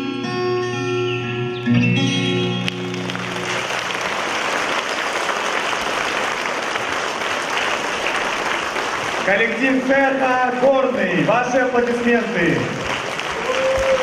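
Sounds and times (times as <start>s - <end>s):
audience applause: 2.7s - 14.0s.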